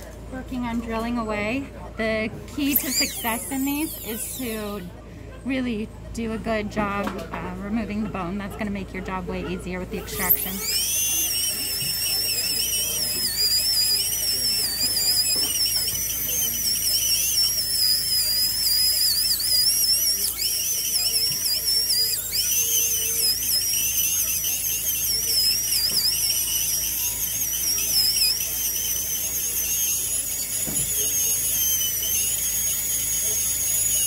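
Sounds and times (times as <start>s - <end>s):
dental drill whining: 2.3s - 5.0s, 5.6s - 34.0s.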